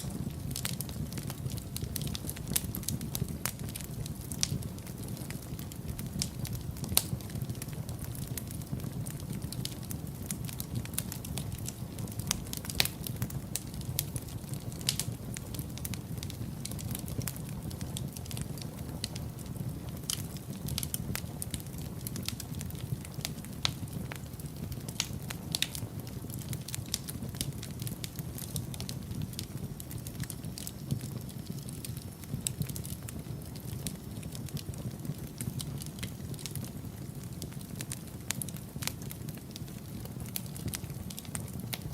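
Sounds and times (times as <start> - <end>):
low fire rumble: 0.0 - 41.9
wood fire crackling and popping: 0.0 - 41.9.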